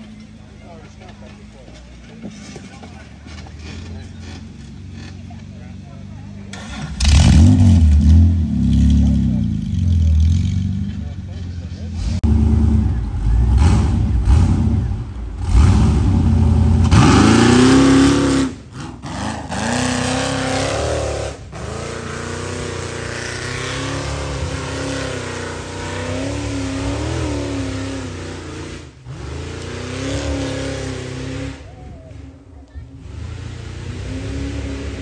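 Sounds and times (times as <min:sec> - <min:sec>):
buggy engine revving: 0:00.0 - 0:35.0.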